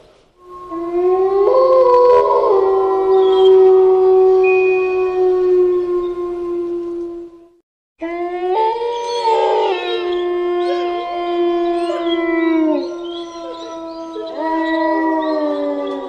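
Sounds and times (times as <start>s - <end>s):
dogs howling: 0.4s - 16.0s.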